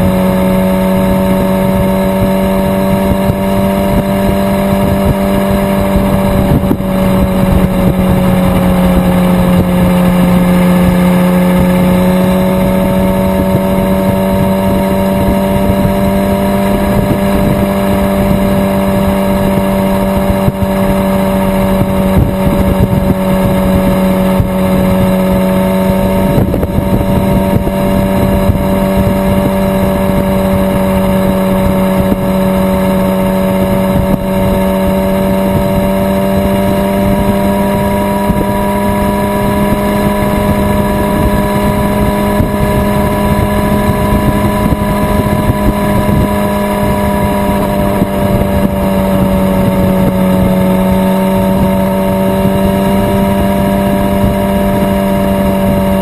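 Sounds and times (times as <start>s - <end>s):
motorcycle engine revving high: 0.0s - 56.0s
wind and road noise: 0.0s - 56.0s.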